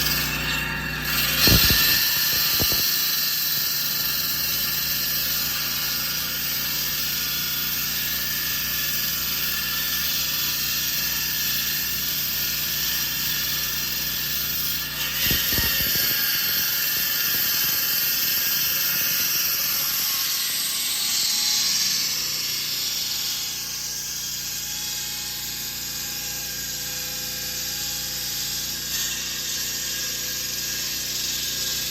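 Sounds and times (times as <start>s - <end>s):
concrete saw cutting: 0.0s - 31.9s.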